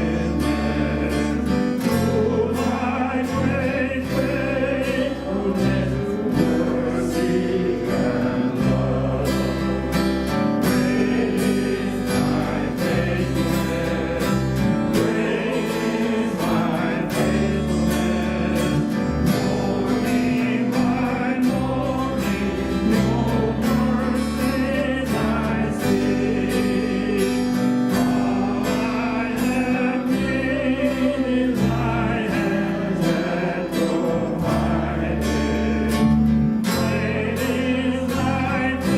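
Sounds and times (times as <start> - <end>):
acoustic guitar: 0.0 - 38.9
bass guitar: 0.0 - 38.9
people singing a hymn: 0.0 - 38.9.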